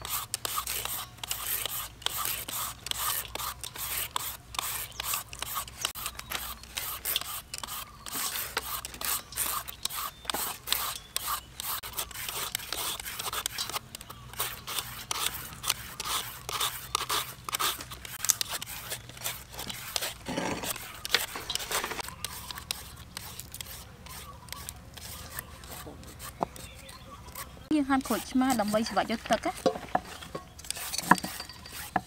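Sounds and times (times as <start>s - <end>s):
peeler rasping on vegetables: 0.0s - 32.0s.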